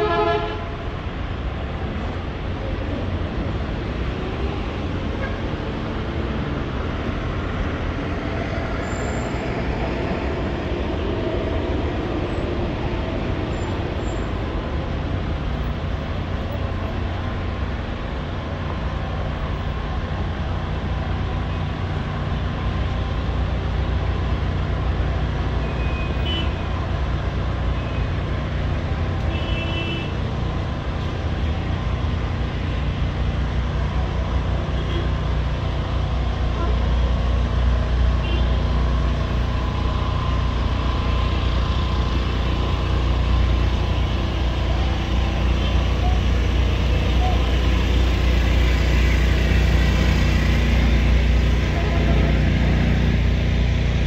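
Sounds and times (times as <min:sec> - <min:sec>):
rumble of passing vehicles: 0:00.0 - 0:54.0.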